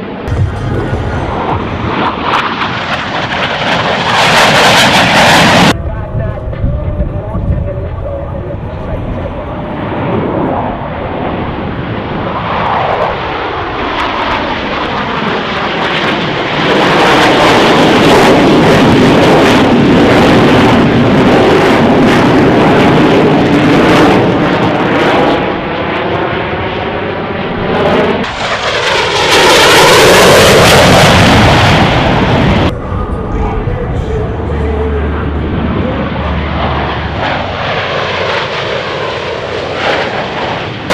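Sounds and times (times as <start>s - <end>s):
military aircraft flying past: 0.0s - 40.9s.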